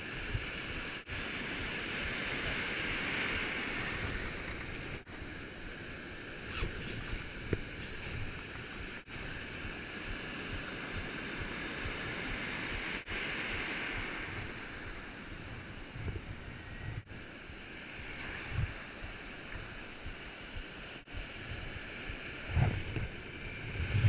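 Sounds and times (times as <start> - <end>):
wind on microphone: 0.0 - 5.4, 6.4 - 24.0
surf washing on beach: 0.0 - 24.0.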